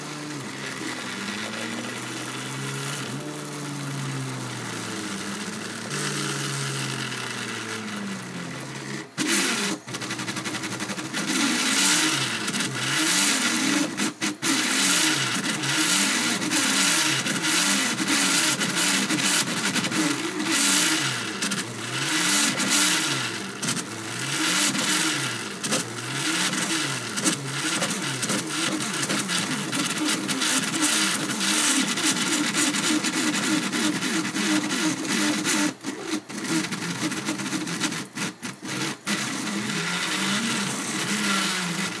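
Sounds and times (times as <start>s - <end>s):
stepper motors whining: 0.0s - 42.0s.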